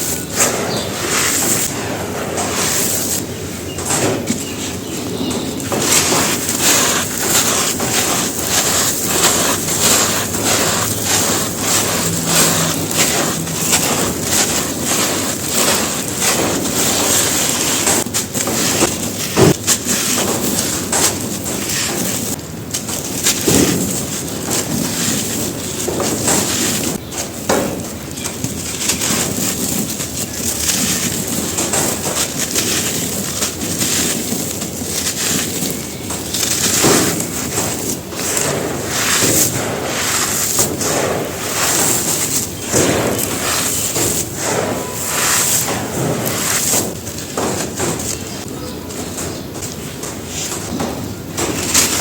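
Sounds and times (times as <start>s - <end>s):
dirt crunching on hard floor: 0.0s - 52.0s.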